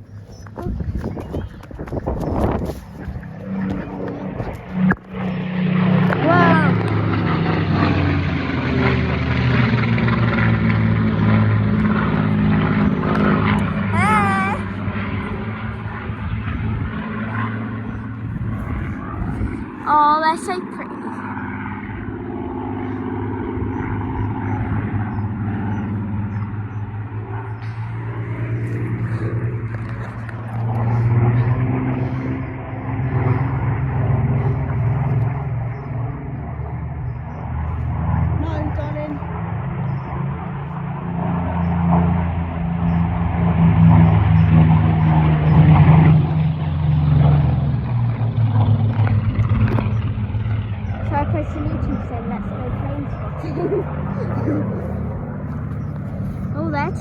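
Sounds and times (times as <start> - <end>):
propeller aircraft droning past: 0.0 - 57.0.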